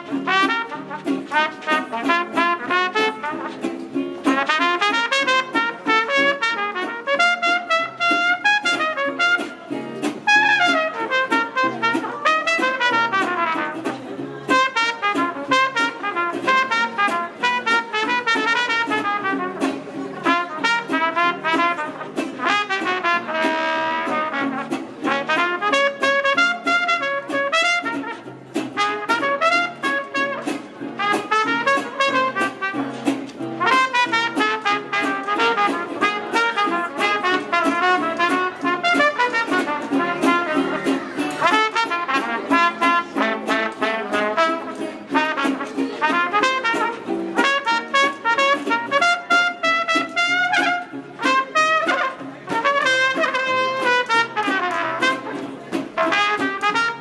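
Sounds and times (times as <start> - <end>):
brass band playing jazz: 0.0 - 57.0.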